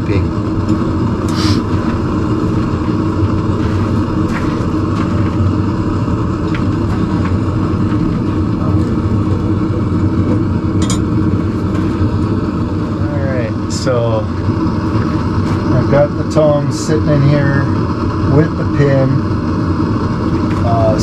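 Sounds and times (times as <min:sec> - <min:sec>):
forge rumbling: 0:00.0 - 0:18.3.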